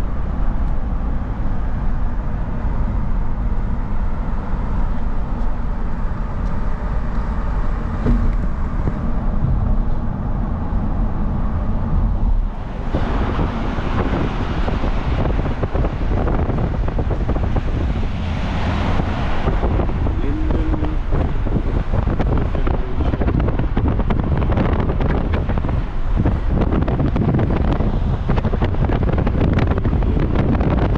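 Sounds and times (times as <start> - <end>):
car interior engine rumble: 0.0 - 30.9
rush of wind and traffic: 0.0 - 30.9.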